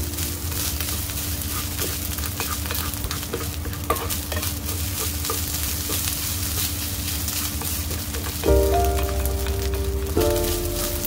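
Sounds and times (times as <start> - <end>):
rice sizzling in a skillet: 0.0 - 11.0.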